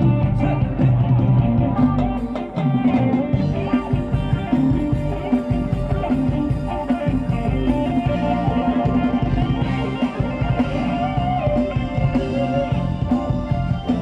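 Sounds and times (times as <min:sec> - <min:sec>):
drum kit dance beat: 0:00.0 - 0:14.0
electric guitar: 0:00.0 - 0:14.0.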